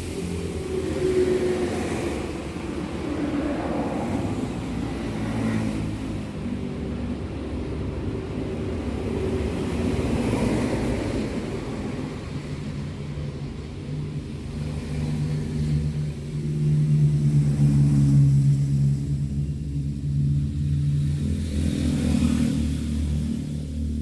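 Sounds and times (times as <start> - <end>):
engines humming: 0.0 - 24.0.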